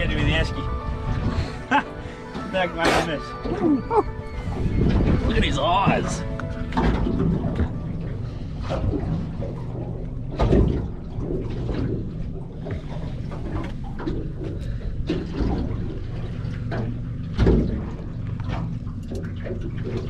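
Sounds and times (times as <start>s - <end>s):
boat engine idling: 0.0s - 20.0s
water lapping: 0.0s - 20.0s.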